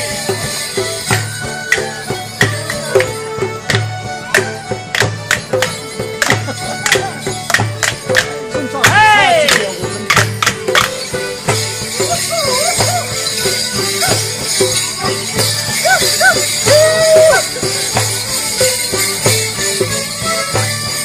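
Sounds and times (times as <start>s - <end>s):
bells jingling: 0.0s - 21.0s
folk band playing: 0.0s - 21.0s.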